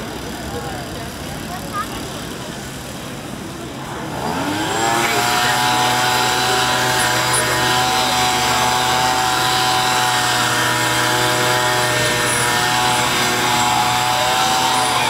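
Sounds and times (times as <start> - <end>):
leaf blower whining: 0.0 - 15.0.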